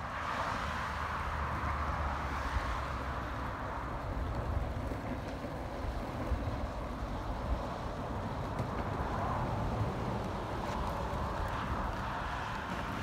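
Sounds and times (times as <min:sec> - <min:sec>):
wheels rolling over asphalt: 0:00.1 - 0:13.0.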